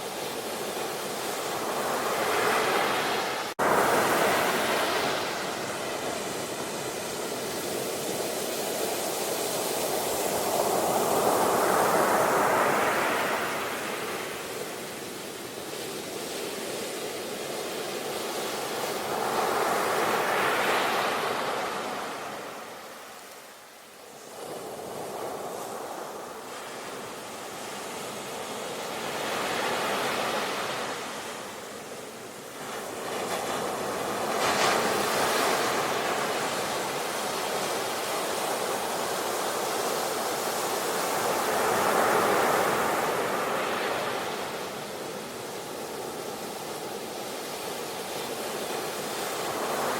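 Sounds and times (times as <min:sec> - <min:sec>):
sea waves breaking on shore: 0:00.0 - 0:49.9.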